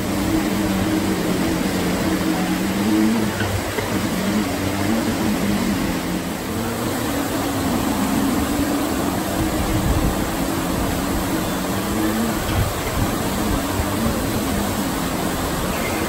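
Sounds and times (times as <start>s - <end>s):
low droning hum: 0.0s - 16.0s
water rushing over rapids: 0.0s - 16.0s.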